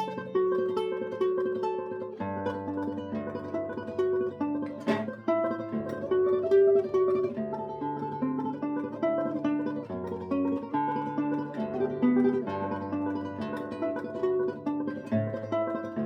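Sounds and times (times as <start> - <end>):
classical guitar tremolo melody: 0.0 - 16.0.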